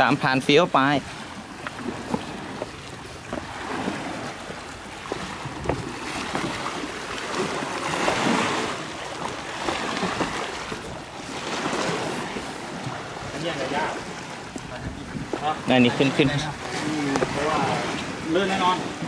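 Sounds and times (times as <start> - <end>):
sea surf washing in: 0.0 - 19.0.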